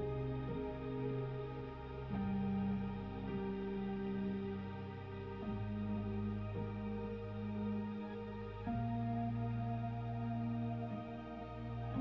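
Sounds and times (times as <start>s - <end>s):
slow held background music: 0.0s - 12.0s.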